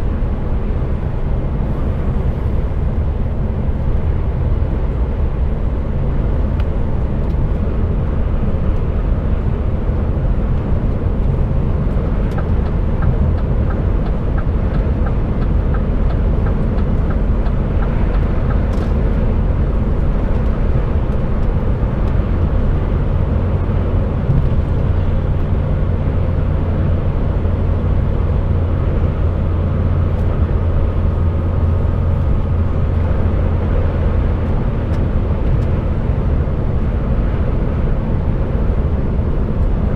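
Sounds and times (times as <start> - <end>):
lorry diesel engine drone: 0.0 - 39.9
road noise: 0.0 - 39.9.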